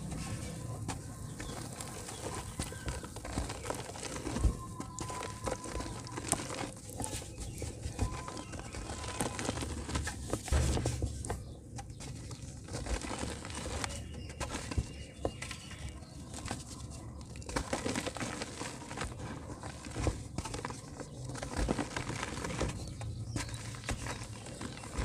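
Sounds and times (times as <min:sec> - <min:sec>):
mud crumbling into water: 0:01.3 - 0:25.0.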